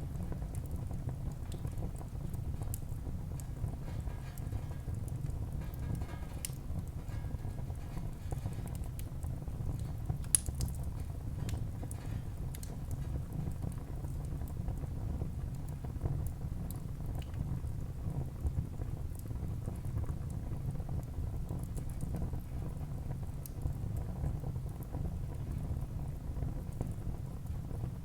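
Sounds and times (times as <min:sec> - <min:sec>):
fire popping: 0:00.0 - 0:25.6
wood fire crackling: 0:00.0 - 0:28.0.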